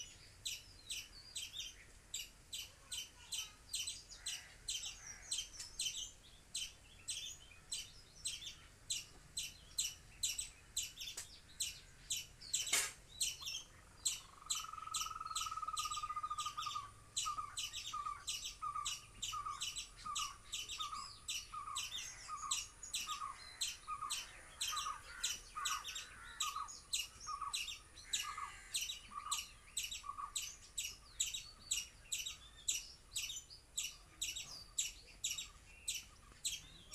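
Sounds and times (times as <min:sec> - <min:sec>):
high bird chirps: 0:00.0 - 0:36.9.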